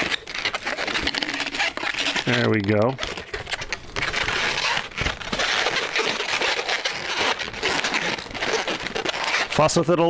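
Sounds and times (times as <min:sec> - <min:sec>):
balloons rubbing and squeaking: 0:00.0 - 0:10.0.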